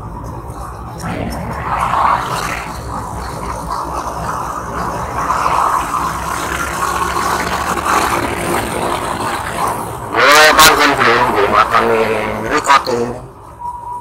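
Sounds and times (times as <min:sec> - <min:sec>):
road noise: 0:00.0 - 0:14.0
motorcycle engine running: 0:01.0 - 0:12.5.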